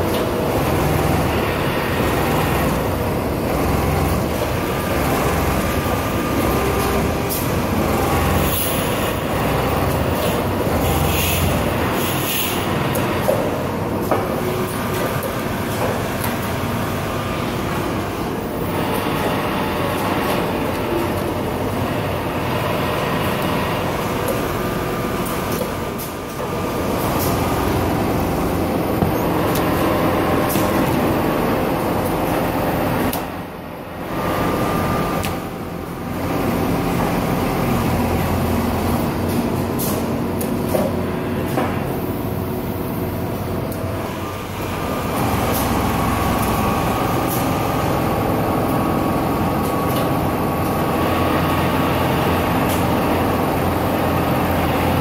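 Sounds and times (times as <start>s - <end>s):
workshop machinery: 0.0s - 55.0s.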